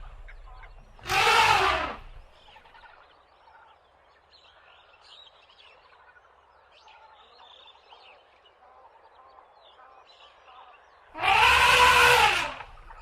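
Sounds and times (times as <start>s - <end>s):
faint bird chirps and calls: 0.0s - 11.6s.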